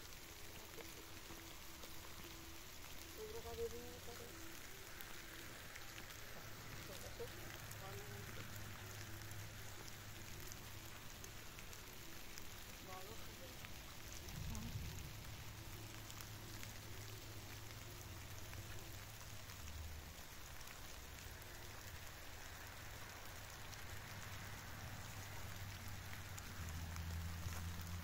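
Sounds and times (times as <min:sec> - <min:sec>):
light rain on leaves: 0:00.0 - 0:28.0
low steady hum: 0:00.0 - 0:28.0.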